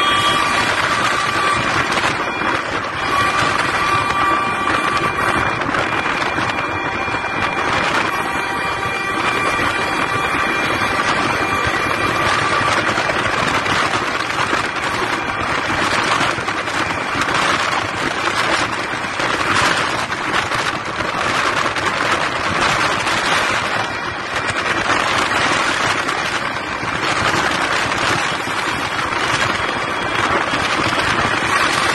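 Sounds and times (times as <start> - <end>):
motorway traffic engines and tyres: 0.0 - 31.9.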